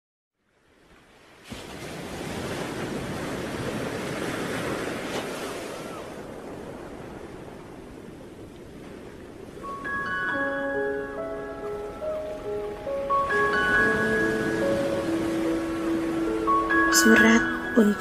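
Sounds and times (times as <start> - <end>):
surf rushing: 0.9 - 18.0.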